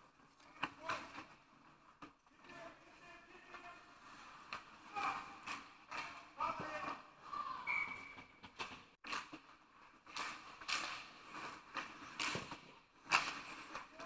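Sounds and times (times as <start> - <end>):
hockey sticks and puck clacking: 0.0 - 14.0
skates scraping on ice: 0.0 - 14.0.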